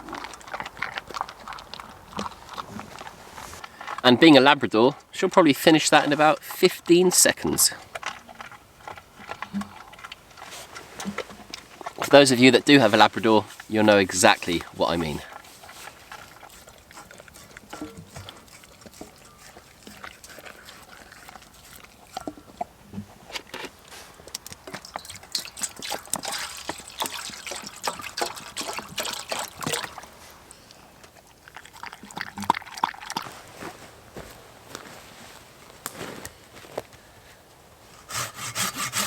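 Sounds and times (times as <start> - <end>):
dog chewing and licking: 0.0 - 33.9.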